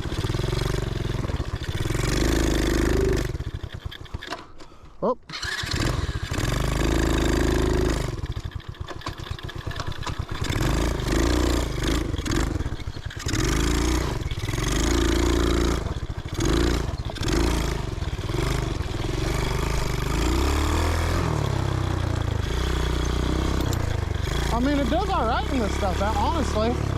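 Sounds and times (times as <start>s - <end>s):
small engine revving under load: 0.0s - 4.5s, 5.3s - 26.9s.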